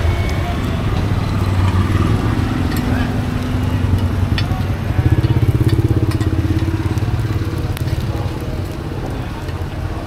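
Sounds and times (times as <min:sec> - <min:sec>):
motorbike engine passing: 0:00.0 - 0:09.4.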